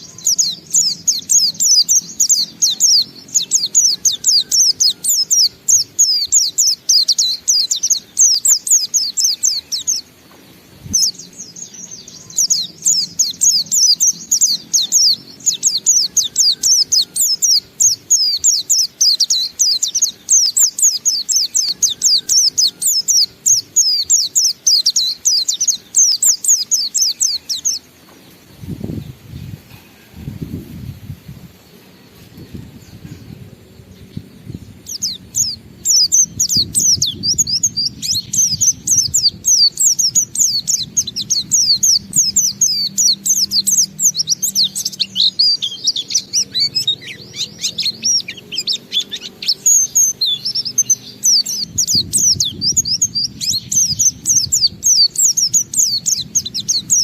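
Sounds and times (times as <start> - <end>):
bird singing high chirps: 0.0 - 57.0.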